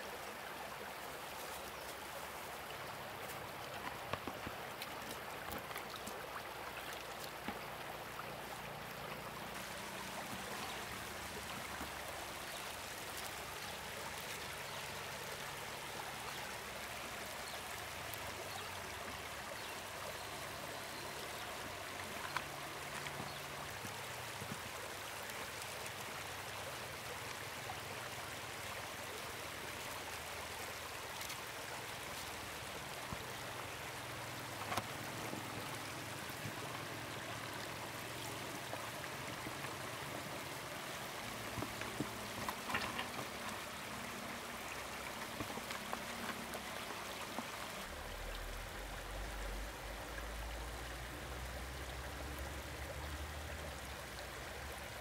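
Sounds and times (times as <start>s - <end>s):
water flowing in stream: 0.0s - 55.0s.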